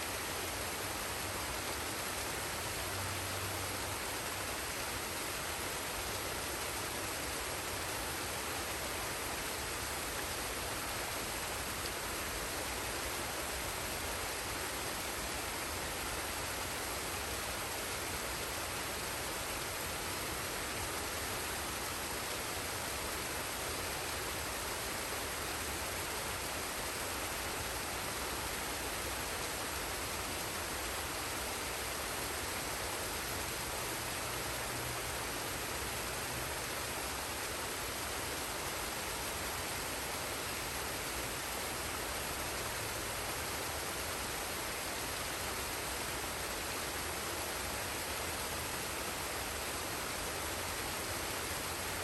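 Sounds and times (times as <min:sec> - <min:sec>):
waterfall and stream rushing: 0:00.0 - 0:52.0.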